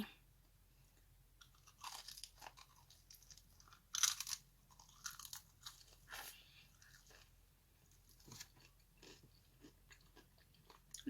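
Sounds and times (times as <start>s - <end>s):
chewing crunchy food: 1.4s - 11.0s.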